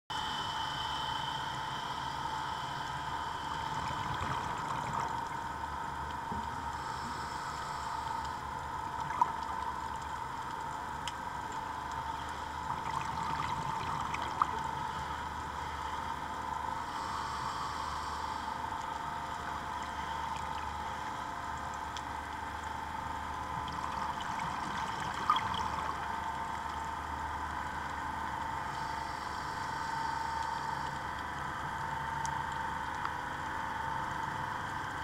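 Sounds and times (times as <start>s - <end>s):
constant hum: 0.1s - 35.0s
underwater water noise: 0.1s - 35.0s.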